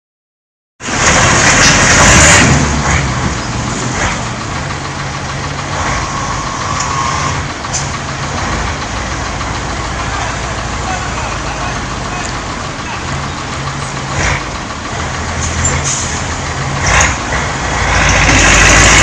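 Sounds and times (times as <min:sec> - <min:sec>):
tractor diesel engine under load: 0:00.8 - 0:19.0.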